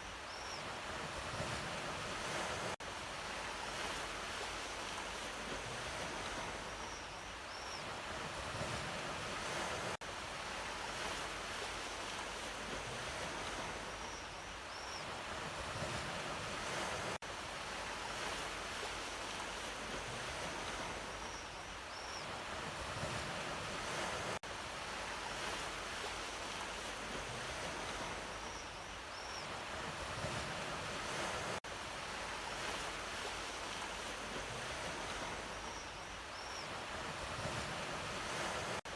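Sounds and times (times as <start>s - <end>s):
sea waves washing onto shore: 0.0s - 6.8s, 7.9s - 14.1s, 15.0s - 21.3s, 22.2s - 28.6s, 29.4s - 35.8s, 36.5s - 38.9s.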